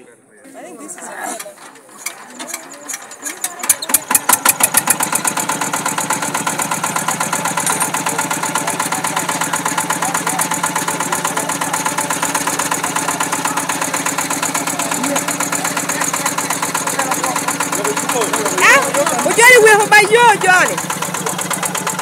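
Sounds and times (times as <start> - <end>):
diesel engine starting and idling: 1.4 - 22.0.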